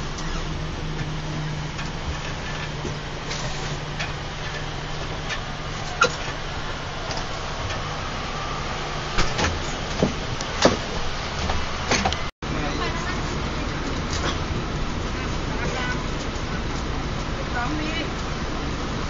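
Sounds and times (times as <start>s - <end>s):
bus interior drone with road noise: 0.0s - 19.0s.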